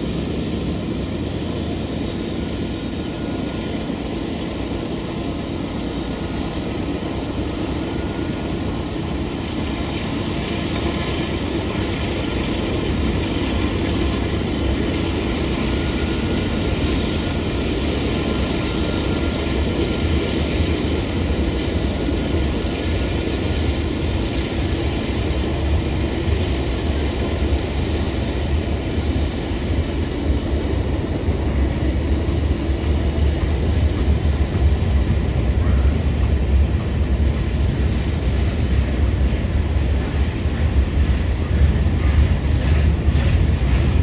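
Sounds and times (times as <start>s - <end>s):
freight train rumbling past: 0.0s - 44.0s.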